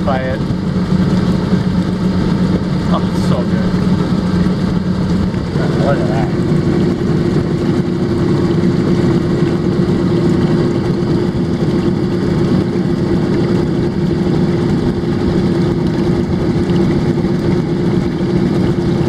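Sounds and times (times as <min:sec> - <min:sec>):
boat motor droning: 0:00.0 - 0:19.0
water rushing along hull: 0:00.0 - 0:19.0.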